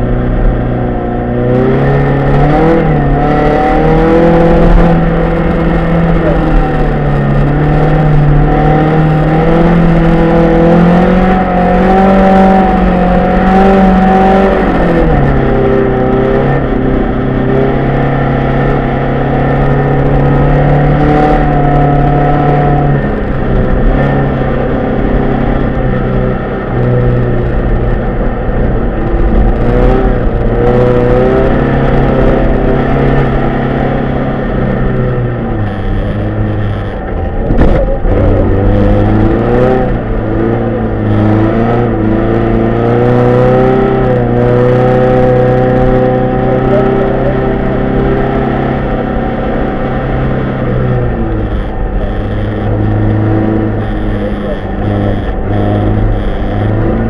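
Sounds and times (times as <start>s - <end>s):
rally car engine revving: 0.0s - 57.0s
tyre and road noise: 0.0s - 57.0s.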